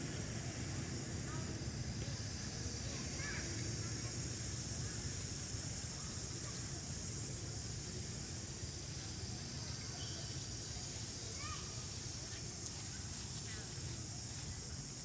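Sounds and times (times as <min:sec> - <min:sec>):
constant high hiss: 0:00.0 - 0:15.0.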